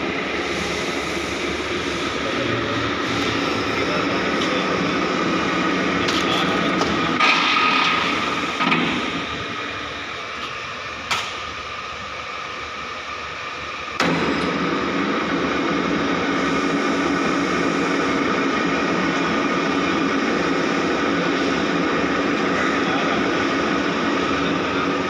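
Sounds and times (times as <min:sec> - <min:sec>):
milling machine running: 0:00.0 - 0:25.0.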